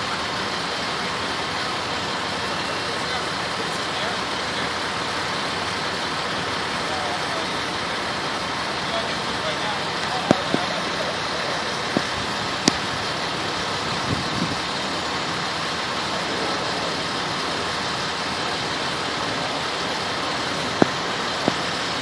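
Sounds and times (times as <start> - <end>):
large vehicle engine idling: 0.0 - 22.0.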